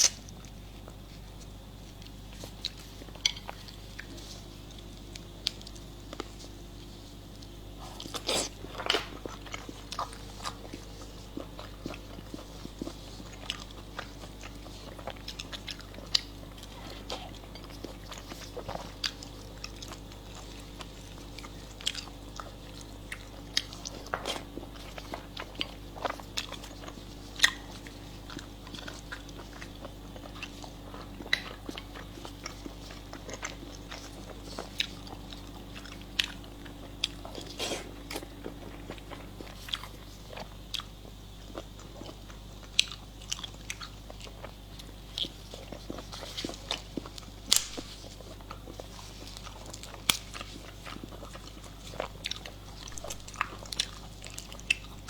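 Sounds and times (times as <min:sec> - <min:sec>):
low steady hum: 0:00.0 - 0:55.0
person chewing crunchy food: 0:00.0 - 0:55.0.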